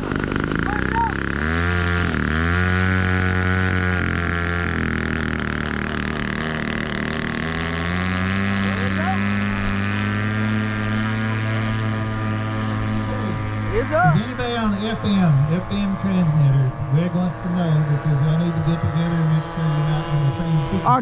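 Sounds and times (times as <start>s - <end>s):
model airplane engines droning: 0.0s - 21.0s.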